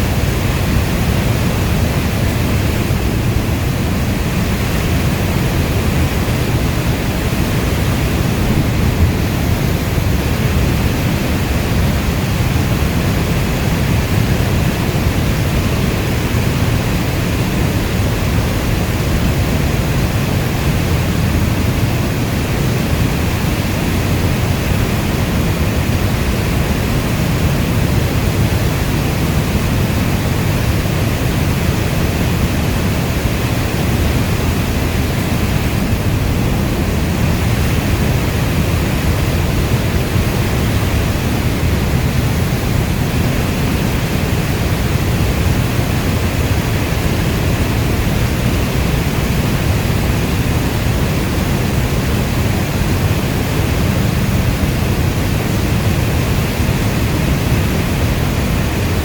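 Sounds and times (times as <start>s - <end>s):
deep rushing hiss of rain: 0.0s - 59.0s.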